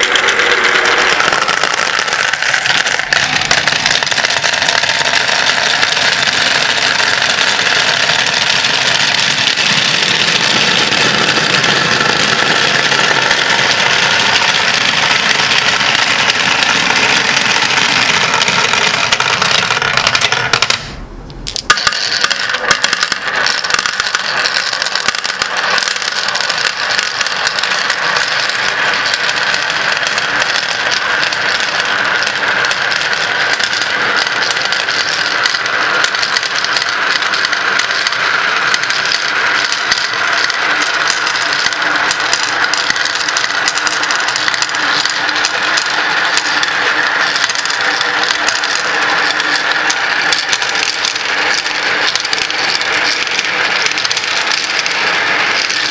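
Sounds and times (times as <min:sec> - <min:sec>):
glass marbles rolling and clicking: 0:00.0 - 0:55.9.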